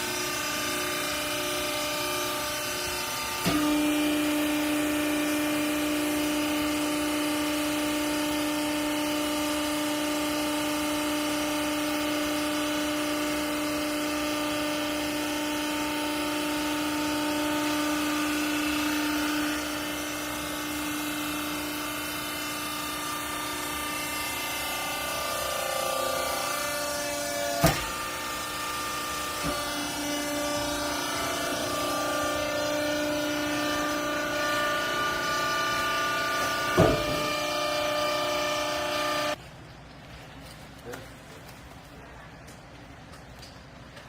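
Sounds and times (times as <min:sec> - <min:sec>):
loud steady whine: 0:00.0 - 0:39.4
pump motor humming: 0:00.0 - 0:39.4.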